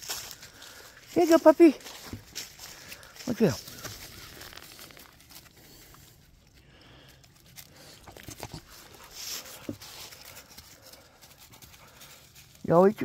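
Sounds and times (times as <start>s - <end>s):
rustling in dry leaf litter: 0.0s - 13.0s.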